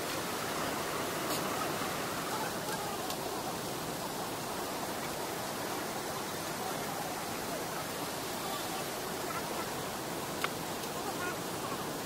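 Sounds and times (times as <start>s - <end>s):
stream and waterfall rushing: 0.0s - 12.0s.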